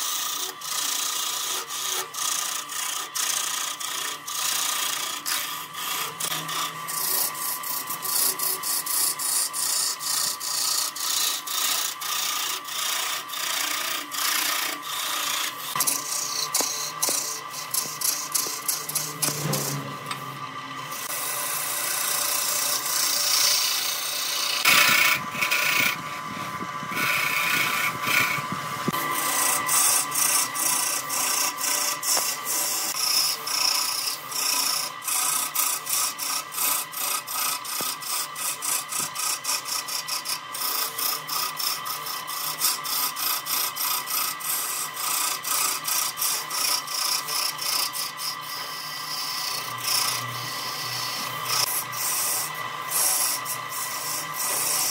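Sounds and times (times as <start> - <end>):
wood lathe turning tool scraping: 0.0 - 54.9.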